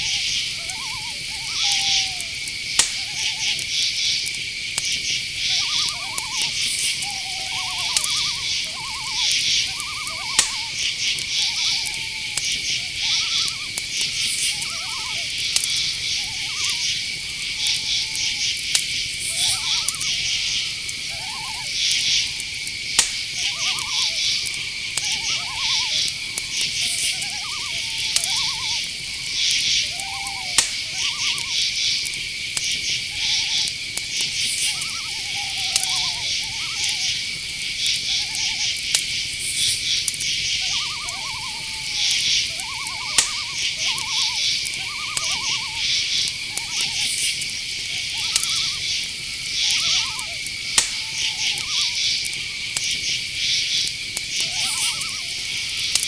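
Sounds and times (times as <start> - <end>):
crickets trilling: 0.0 - 56.0
owl hoots: 0.0 - 56.0
pulsing insect chirps: 0.0 - 56.0
sharp clicks: 0.2 - 5.0, 5.6 - 53.1.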